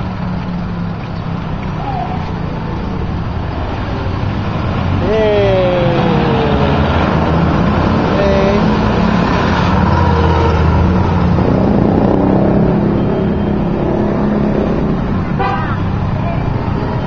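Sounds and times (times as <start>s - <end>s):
passing motor vehicles: 0.0s - 17.0s.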